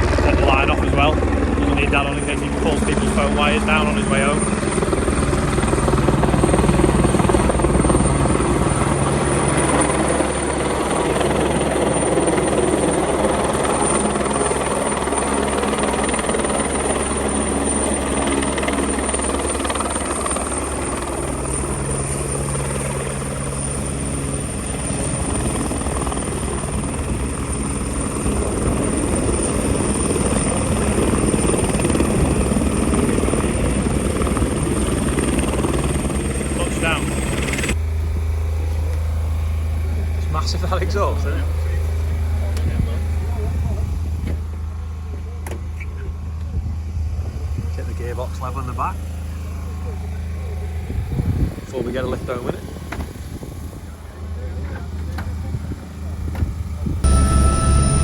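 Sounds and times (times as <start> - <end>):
helicopter rotor turning: 0.0 - 58.0
helicopter turbine engines running: 0.0 - 58.0
high turbine whine: 0.0 - 58.0.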